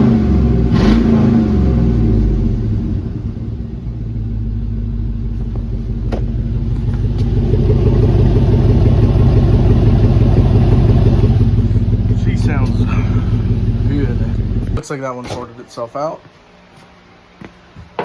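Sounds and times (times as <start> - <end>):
engine rumbling with open exhaust: 0.0 - 14.8.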